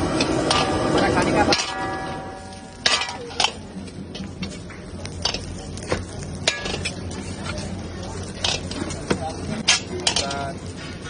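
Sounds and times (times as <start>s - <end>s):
ladle clanking and scraping wok: 0.0s - 11.0s.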